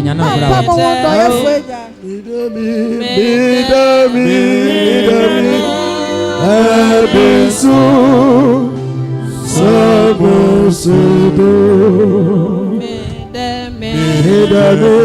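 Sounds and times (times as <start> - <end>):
gospel singing voice: 0.0 - 15.0
instrumental backing: 0.0 - 15.0.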